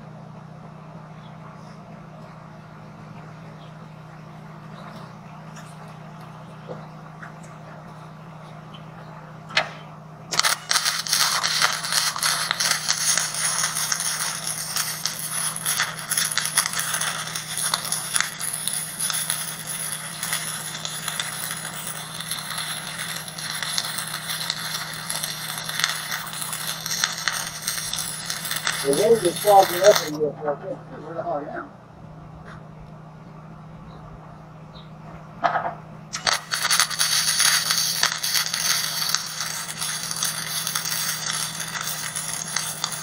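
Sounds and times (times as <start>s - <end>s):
arc welder crackling: 0.0s - 31.8s, 35.0s - 43.0s
low hum: 0.0s - 43.0s.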